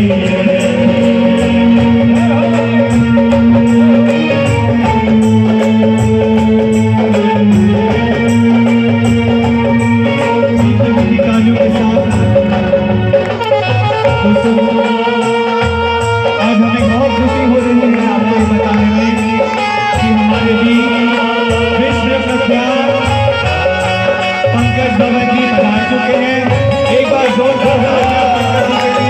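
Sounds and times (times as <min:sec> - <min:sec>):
devotional music over loudspeakers: 0:00.0 - 0:29.0
man singing into a microphone: 0:00.0 - 0:29.0
steady percussion beat: 0:00.0 - 0:29.0.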